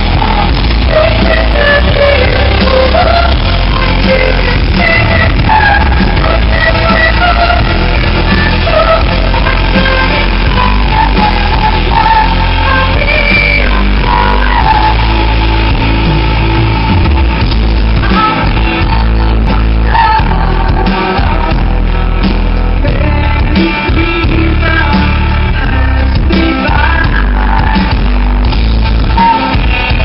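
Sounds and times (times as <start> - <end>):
woman singing: 0.0 - 16.1, 17.9 - 22.0, 22.8 - 28.1, 29.0 - 30.0
metal band playing live: 0.0 - 30.0.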